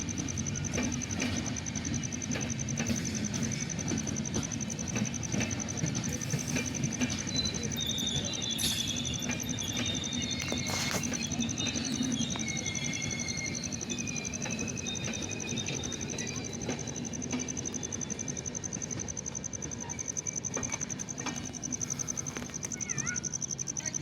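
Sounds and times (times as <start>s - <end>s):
insects trilling: 0.0s - 24.0s
low rumble of train: 0.0s - 24.0s.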